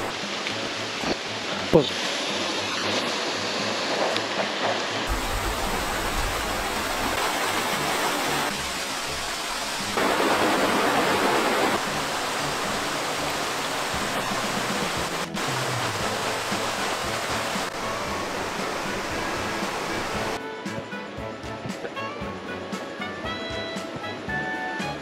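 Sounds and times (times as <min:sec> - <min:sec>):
stream and waterfalls rushing: 0:00.0 - 0:20.4.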